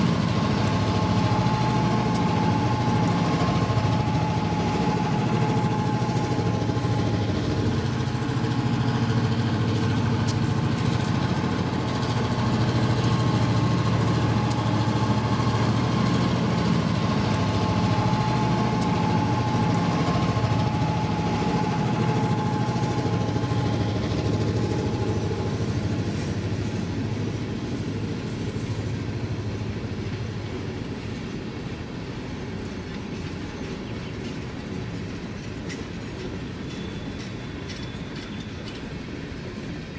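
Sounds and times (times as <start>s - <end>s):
model locomotive running: 0.0s - 39.9s
thin steady whine: 0.0s - 39.9s.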